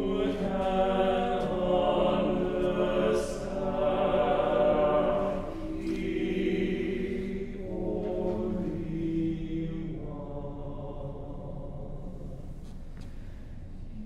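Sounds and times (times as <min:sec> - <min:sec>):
men's choir singing chant: 0:00.0 - 0:12.0.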